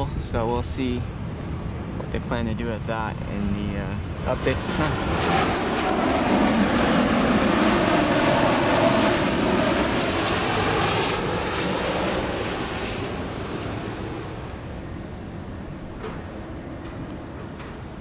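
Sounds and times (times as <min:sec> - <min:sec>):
jet airliner roaring overhead: 0:00.0 - 0:18.0.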